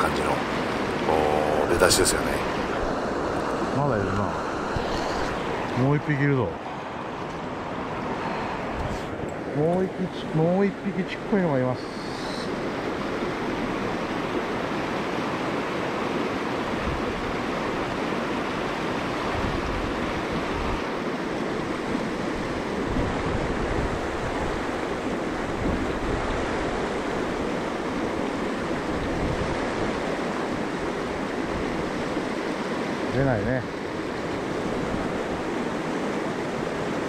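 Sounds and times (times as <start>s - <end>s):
stream rushing: 0.0s - 37.0s
wind buffeting microphone: 1.6s - 9.8s, 12.5s - 37.0s.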